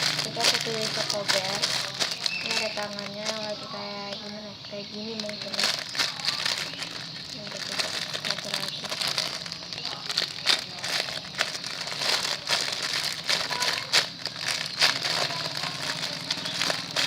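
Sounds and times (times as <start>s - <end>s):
plastic crinkling: 0.0s - 17.0s.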